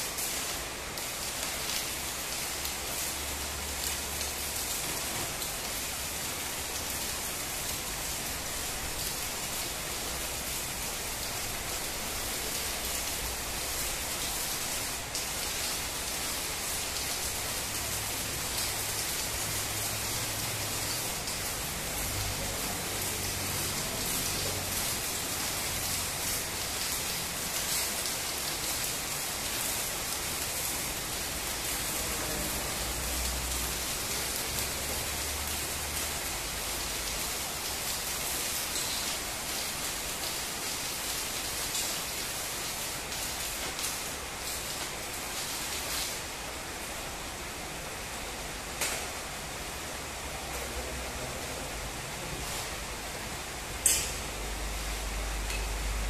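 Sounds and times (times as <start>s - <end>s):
arc welding crackling sizzle: 0.0s - 56.0s.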